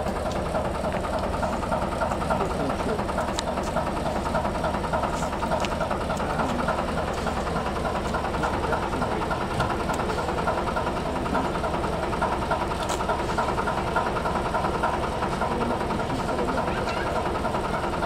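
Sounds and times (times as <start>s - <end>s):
locomotive diesel engine idling: 0.0s - 18.0s.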